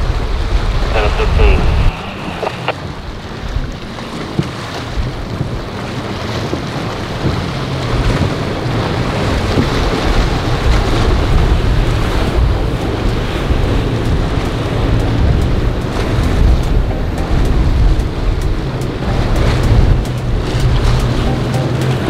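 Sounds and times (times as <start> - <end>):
boat engine drone: 0.0 - 22.0
spray and waves rushing: 0.0 - 22.0
wind buffeting microphone: 0.0 - 22.0.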